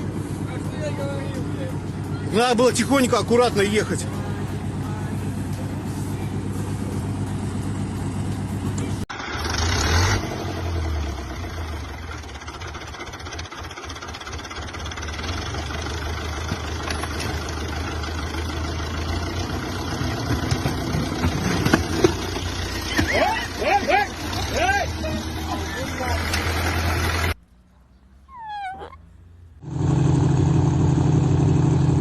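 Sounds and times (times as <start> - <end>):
off-road vehicle engine running: 0.0 - 27.4, 29.4 - 32.0
vehicle engine surging: 0.0 - 27.4.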